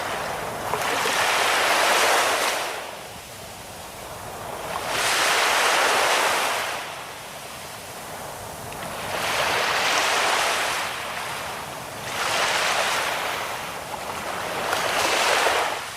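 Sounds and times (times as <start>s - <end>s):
sea waves breaking: 0.0s - 15.9s.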